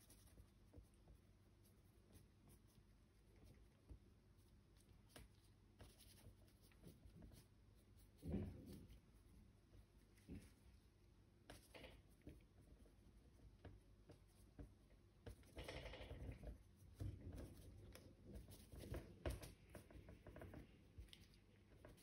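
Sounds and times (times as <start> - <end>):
paintbrush dabbing and scraping: 0.0 - 22.0.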